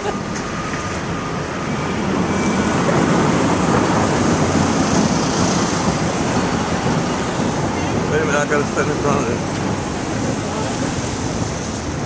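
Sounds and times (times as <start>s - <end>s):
traffic engine noise: 0.0s - 12.0s
tyres hissing on wet pavement: 0.0s - 12.0s.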